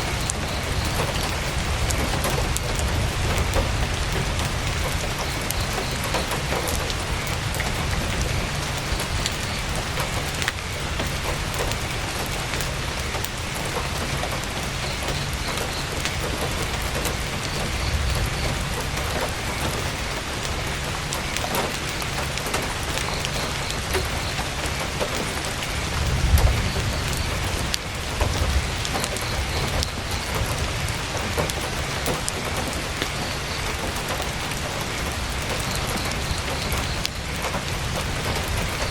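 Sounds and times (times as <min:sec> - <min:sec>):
heavy rain on tent: 0:00.0 - 0:38.9.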